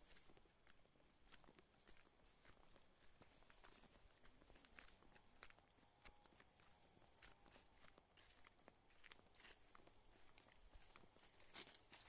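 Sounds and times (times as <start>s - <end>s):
footsteps on dry leaves: 1.2s - 12.0s.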